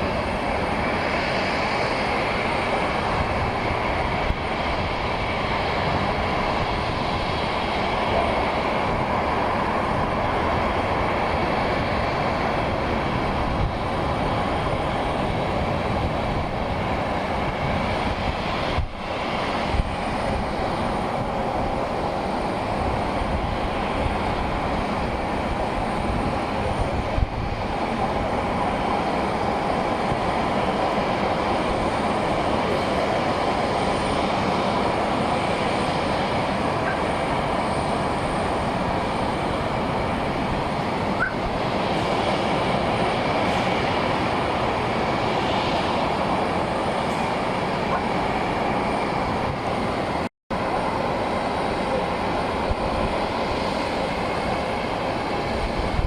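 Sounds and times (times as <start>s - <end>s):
jet engine rushing: 0.0s - 56.0s.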